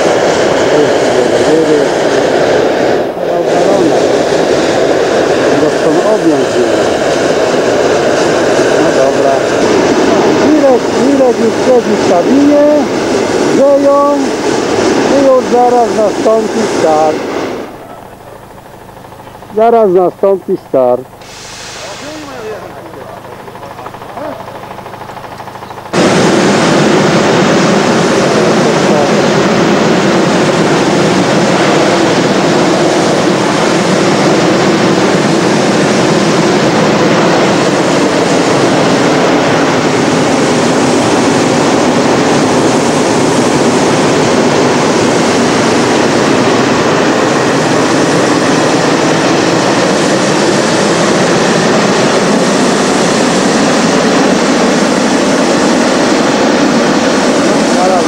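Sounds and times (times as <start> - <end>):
propane burner roaring: 0.0 - 58.0.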